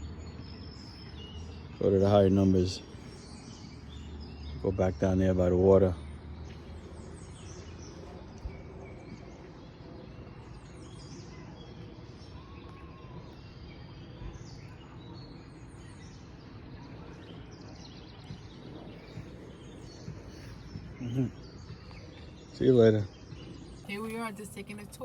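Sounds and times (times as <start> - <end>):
outdoor background noise: 0.0 - 25.0
songbirds chirping: 0.0 - 25.0.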